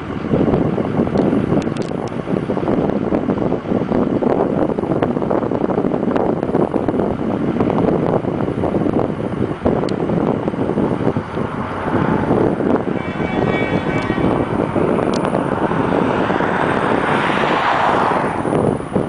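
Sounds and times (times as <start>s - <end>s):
diesel locomotive engine rushing: 0.0s - 19.0s.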